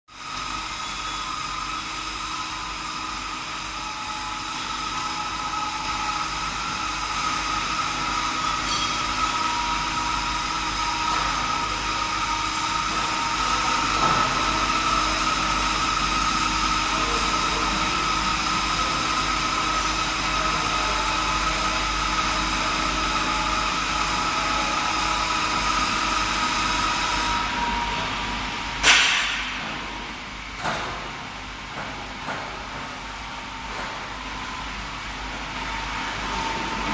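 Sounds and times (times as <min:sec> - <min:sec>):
machine mechanical hum: 0:00.1 - 0:36.9.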